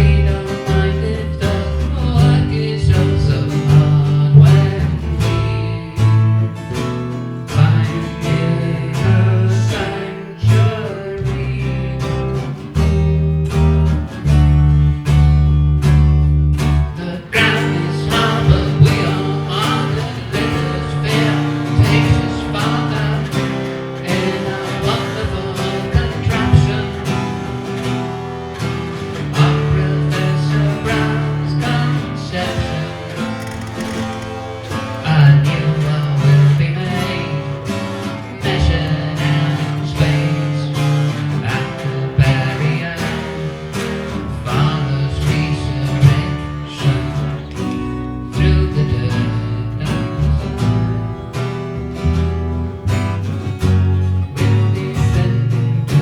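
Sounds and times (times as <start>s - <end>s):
strummed acoustic guitar: 0.0s - 56.0s.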